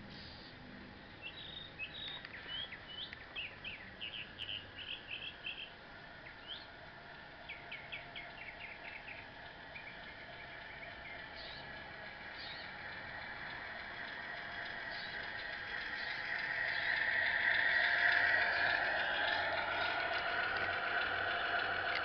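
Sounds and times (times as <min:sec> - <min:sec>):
songbird chirping: 0:01.2 - 0:22.0.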